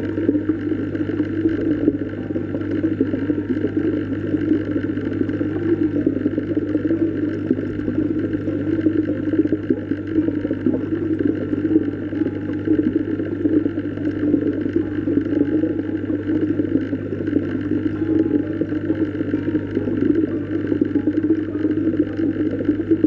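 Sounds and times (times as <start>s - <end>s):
constant low hum: 0.0s - 23.0s
muffled underwater water churning: 0.0s - 23.0s.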